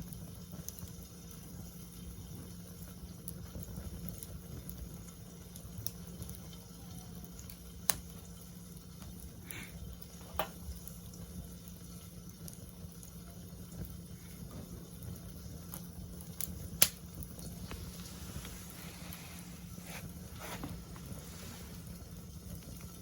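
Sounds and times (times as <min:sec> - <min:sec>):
campfire crackling: 0:00.0 - 0:23.0
fire hissing: 0:00.0 - 0:23.0
fire popping: 0:00.0 - 0:23.0.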